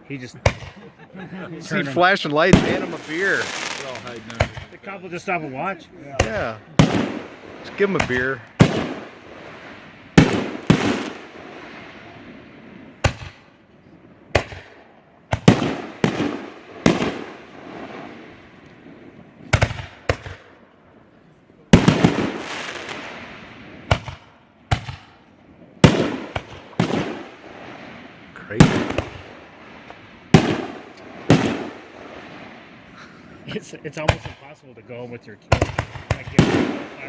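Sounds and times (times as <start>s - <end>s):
fireworks banging and crackling: 0.0s - 37.0s.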